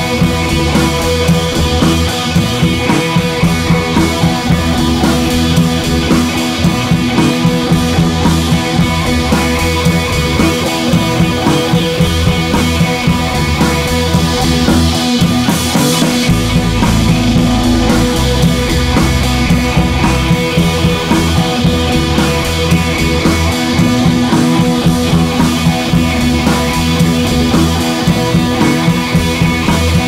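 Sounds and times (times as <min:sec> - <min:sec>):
rock music with guitar and drums: 0:00.0 - 0:30.0.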